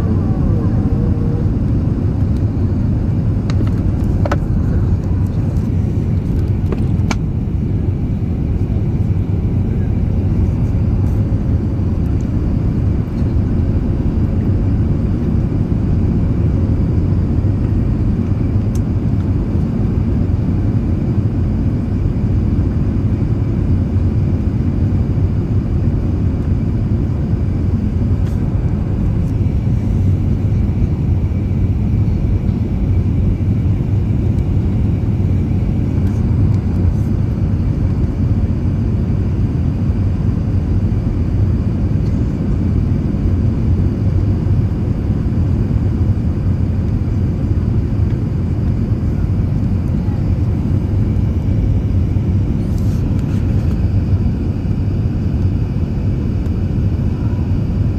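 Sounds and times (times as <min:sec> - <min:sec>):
airliner engine rumble in flight: 0:00.0 - 0:57.9.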